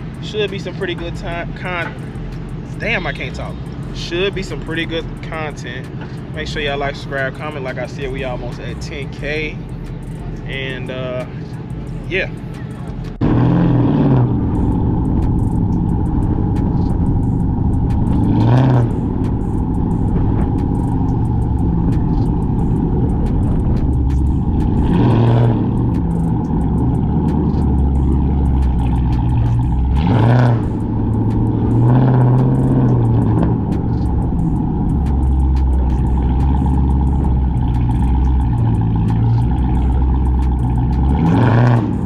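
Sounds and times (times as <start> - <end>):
car exhaust lumpy drone: 0.0 - 42.0
engine revving: 0.0 - 42.0.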